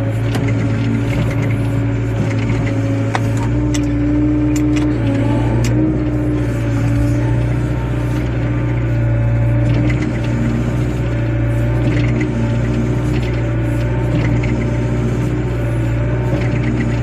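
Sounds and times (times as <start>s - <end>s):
excavator diesel engine humming: 0.0s - 17.0s.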